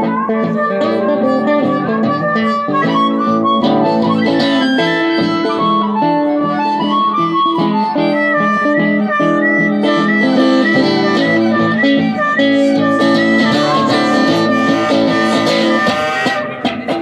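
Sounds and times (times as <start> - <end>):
acoustic guitar strummed and picked: 0.0 - 17.0
wavering harmonica notes: 0.0 - 17.0.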